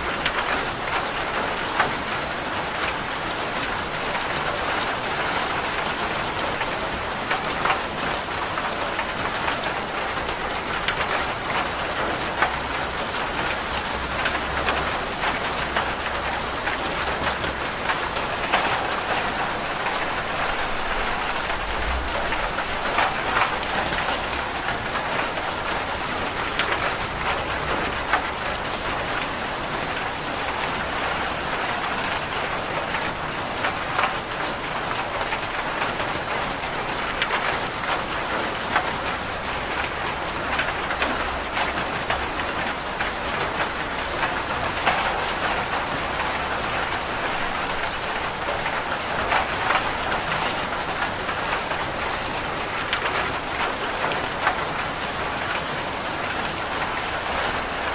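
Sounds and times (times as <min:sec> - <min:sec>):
rain pattering on a roof: 0:00.0 - 0:57.9.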